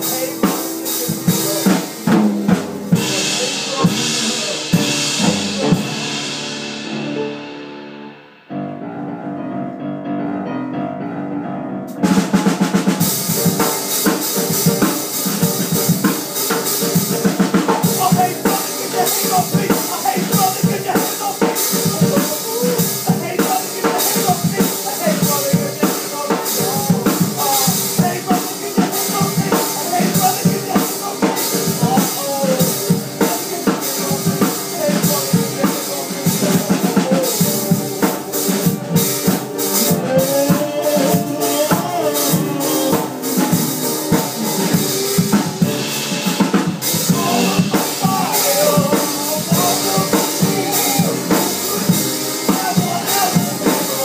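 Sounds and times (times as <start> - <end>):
drum kit beat: 0.0 - 8.8, 11.9 - 54.0
band playing instrumental: 0.0 - 9.7, 11.8 - 54.0.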